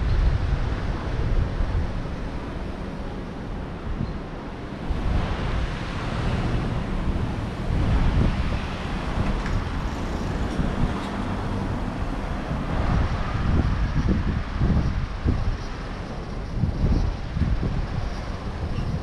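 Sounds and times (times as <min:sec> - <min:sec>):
street traffic: 0:00.0 - 0:19.0
wind buffeting microphone: 0:00.0 - 0:19.0.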